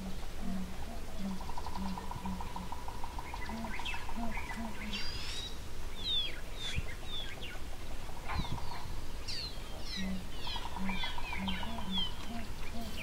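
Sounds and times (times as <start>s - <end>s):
wild birds chirping and whistling: 0.0s - 13.0s.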